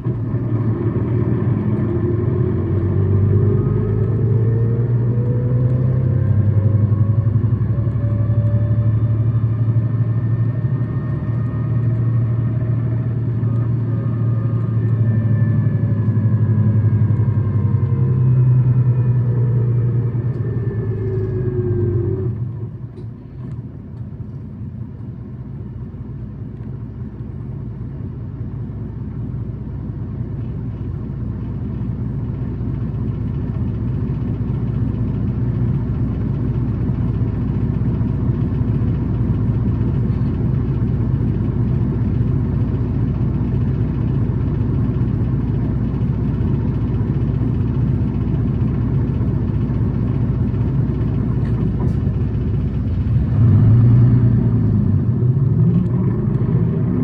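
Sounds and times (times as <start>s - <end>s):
bus engine whining at high revs: 0.0s - 57.0s.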